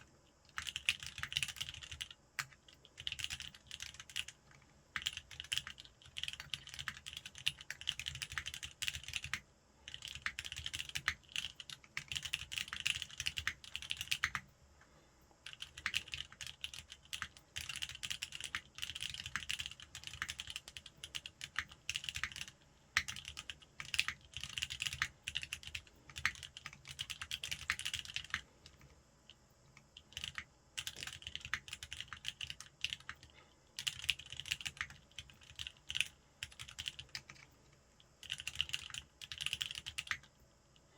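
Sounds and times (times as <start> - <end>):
fast mechanical keyboard typing: 0.0 - 4.4, 5.0 - 14.5, 15.4 - 28.8, 29.7 - 37.5, 38.2 - 40.3.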